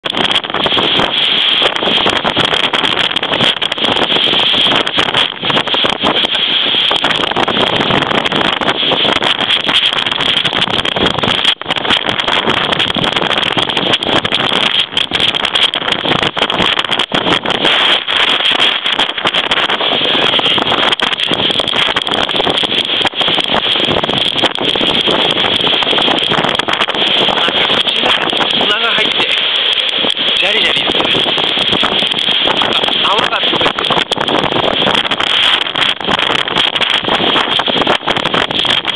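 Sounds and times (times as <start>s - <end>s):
strong wind on microphone: 0.0s - 38.9s.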